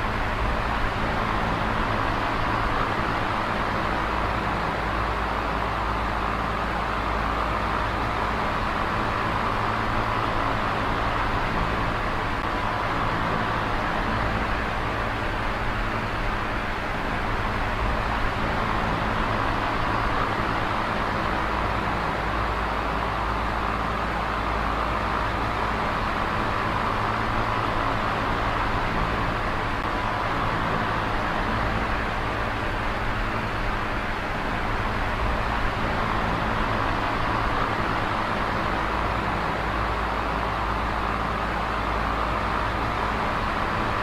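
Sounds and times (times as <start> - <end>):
fan air rush: 0.0 - 44.0
fan motor hum: 0.0 - 44.0.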